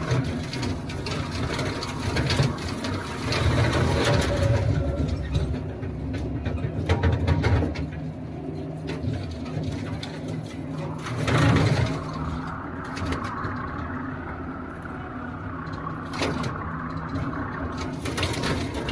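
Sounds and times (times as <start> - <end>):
knocks and clatter: 0.0 - 14.4, 15.5 - 18.9
tractor diesel engine running: 0.0 - 18.9.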